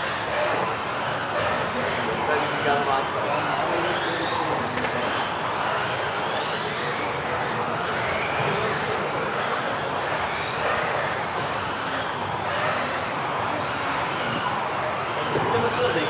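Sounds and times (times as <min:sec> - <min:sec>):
rc car motor whine: 0:00.0 - 0:16.0.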